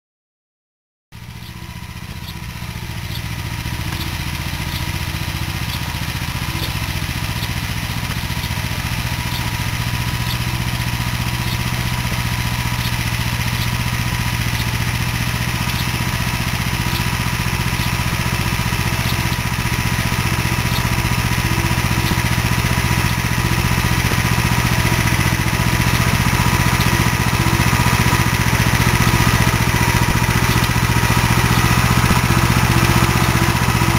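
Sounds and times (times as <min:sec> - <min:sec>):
walk-behind tractor engine running: 0:01.2 - 0:33.9.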